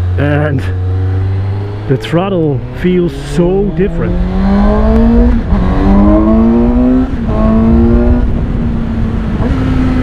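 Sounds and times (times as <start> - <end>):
low wind rumble: 0.0 - 10.0
motorcycle engine accelerating: 0.0 - 10.0.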